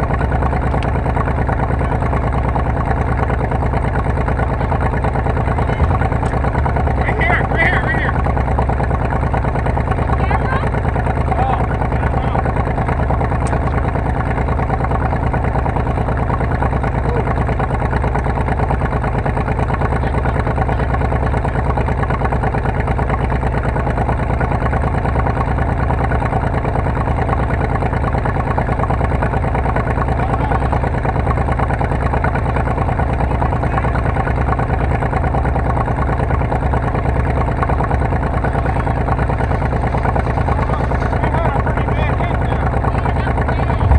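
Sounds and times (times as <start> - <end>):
car engine pulsing drone: 0.0 - 43.9.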